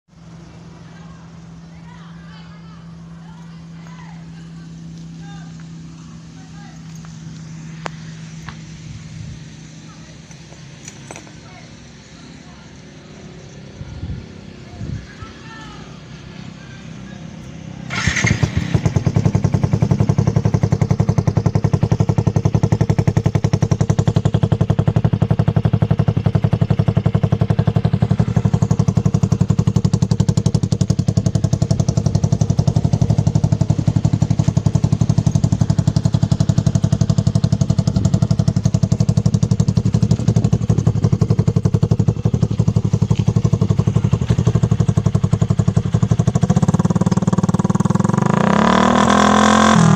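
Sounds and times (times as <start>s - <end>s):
motorcycle engine starting and idling: 0.1s - 49.9s.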